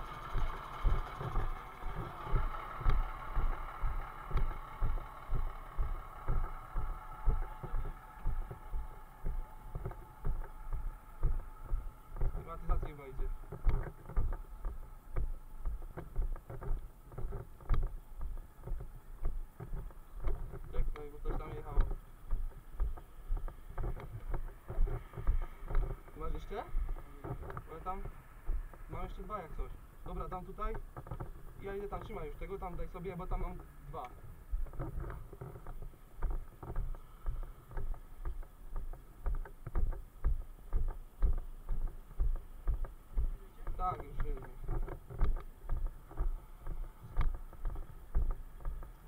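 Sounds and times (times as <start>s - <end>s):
camera thumps and rustle: 0.0s - 49.0s
footsteps on a road: 0.0s - 49.0s.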